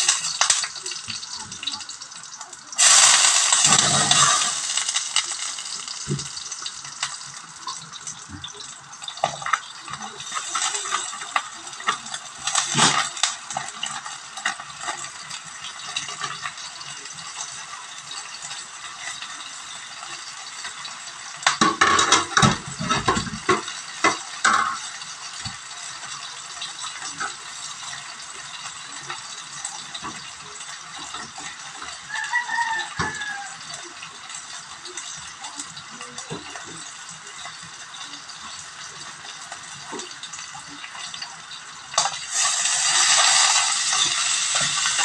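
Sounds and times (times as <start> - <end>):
food sizzling in oil: 0.0 - 45.0.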